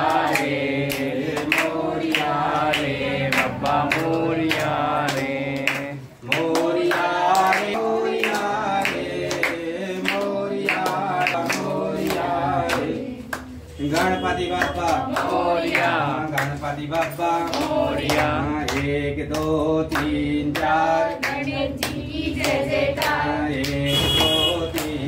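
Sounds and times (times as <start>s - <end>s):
group singing a devotional chant: 0.0s - 25.0s.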